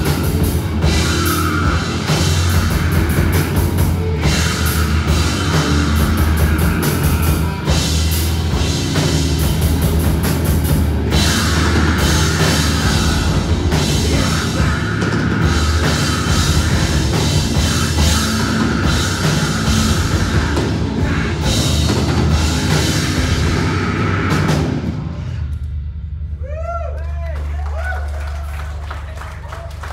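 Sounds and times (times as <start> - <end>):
electric guitar: 0.0 - 25.7
drum kit: 0.0 - 26.8
electric bass guitar: 0.0 - 29.9.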